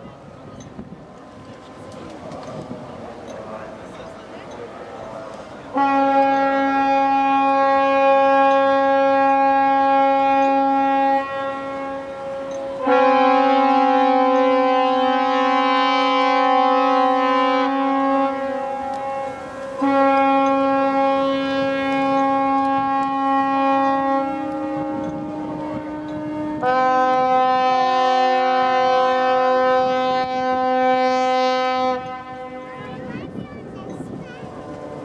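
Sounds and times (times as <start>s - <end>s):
ship horns blasting: 2.3s - 35.0s.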